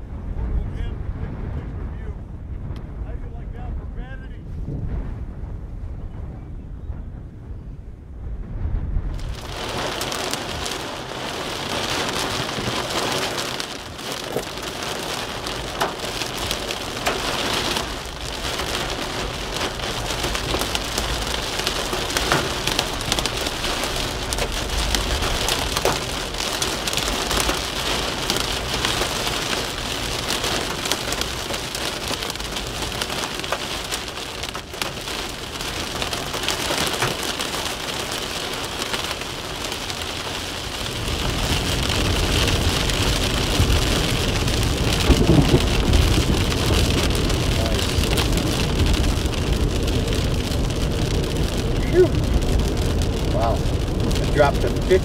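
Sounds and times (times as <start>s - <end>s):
low road rumble: 0.0s - 55.0s
rain on car windshield: 9.2s - 55.0s.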